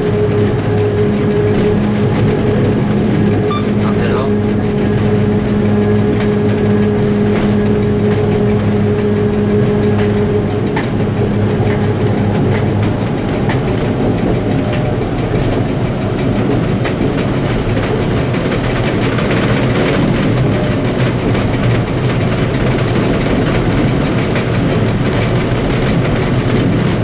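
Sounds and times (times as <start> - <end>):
diesel locomotive engine rumble: 0.0 - 27.0
pitched engine hum: 0.0 - 27.0
wheels clicking on track: 0.0 - 27.0.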